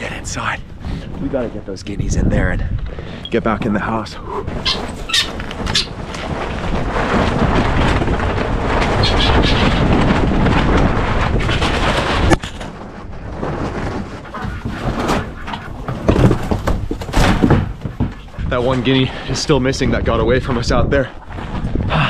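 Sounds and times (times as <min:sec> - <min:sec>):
rustling: 0:00.0 - 0:22.0
wind buffeting microphone: 0:00.0 - 0:22.0.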